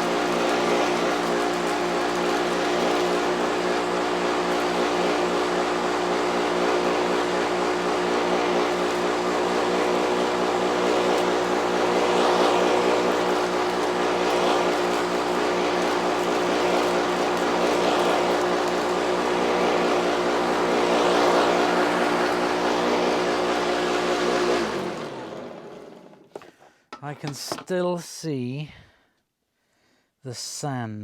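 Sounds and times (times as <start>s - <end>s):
vacuum cleaner running: 0.0s - 26.5s.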